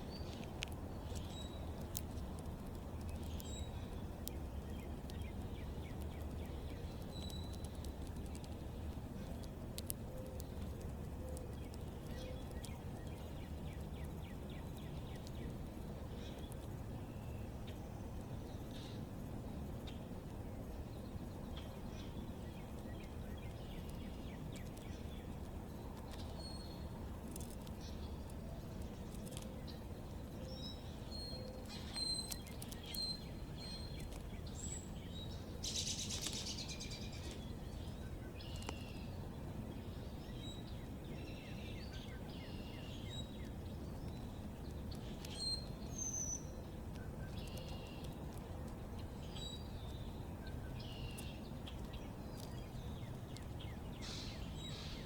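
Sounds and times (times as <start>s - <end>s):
low background noise: 0.0s - 55.0s
songbirds chirping: 0.0s - 55.0s.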